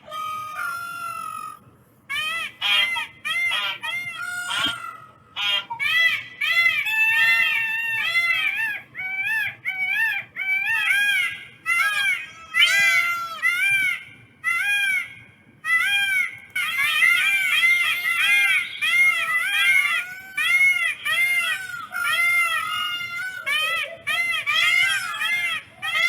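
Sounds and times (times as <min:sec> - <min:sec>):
peafowl calling: 0:00.0 - 0:26.0.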